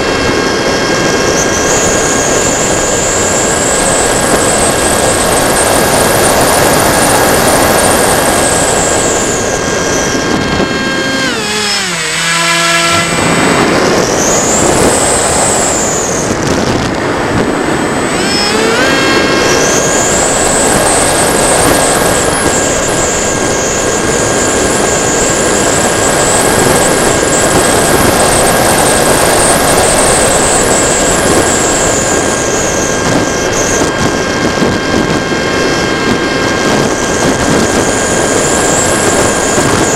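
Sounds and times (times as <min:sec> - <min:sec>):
electric motor propeller whine: 0:00.0 - 0:39.9
wind rushing: 0:00.0 - 0:39.9.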